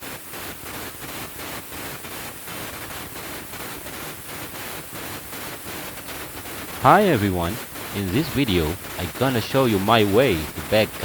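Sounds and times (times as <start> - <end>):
arc gouging crackling hiss: 0.1 - 11.0.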